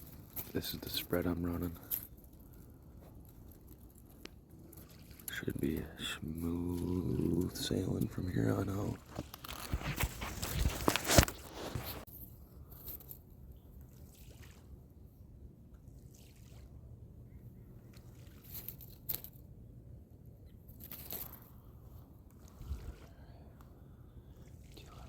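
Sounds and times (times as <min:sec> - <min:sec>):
water sloshing and trickling: 0:00.0 - 0:19.4, 0:20.8 - 0:25.0.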